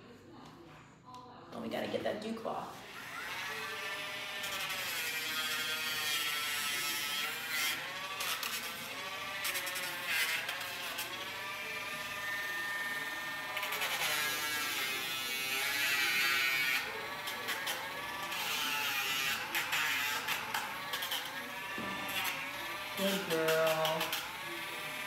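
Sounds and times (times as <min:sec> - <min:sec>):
rotary tool grinding nails: 0:02.9 - 0:25.0.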